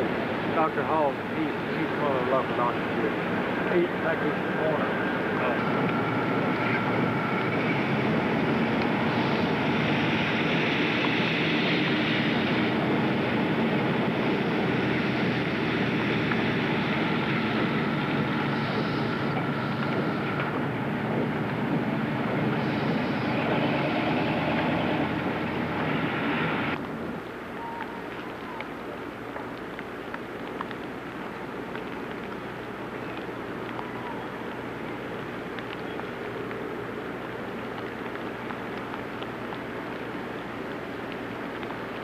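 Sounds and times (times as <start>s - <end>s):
motor vehicle running: 0.0s - 42.0s.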